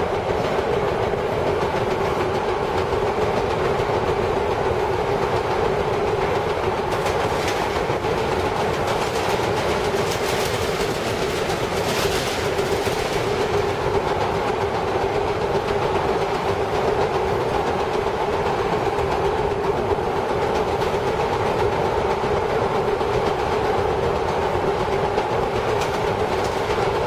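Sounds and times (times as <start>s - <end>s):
constant hum: 0.0s - 27.0s
rapid clicking over track: 0.0s - 27.0s
steel wheels on rails: 0.0s - 27.0s.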